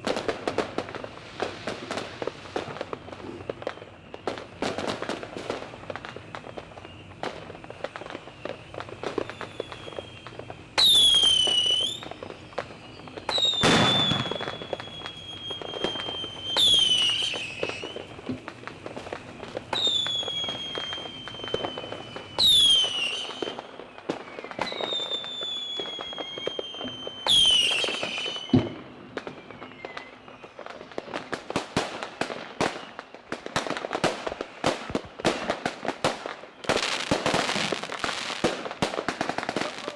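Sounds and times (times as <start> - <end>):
firework whistles falling in pitch: 0.0 - 39.9
fireworks crackling and banging: 0.0 - 39.9.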